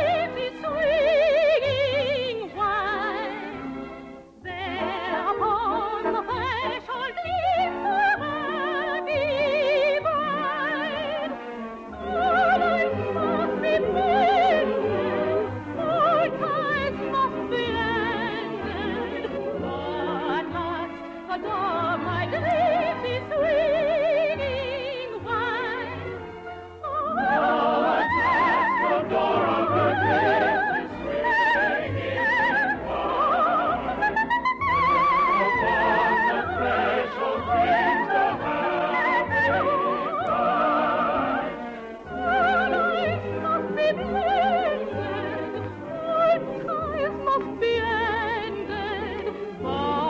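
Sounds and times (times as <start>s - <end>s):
operatic soprano singing: 0.0s - 50.0s
orchestral accompaniment: 0.0s - 50.0s.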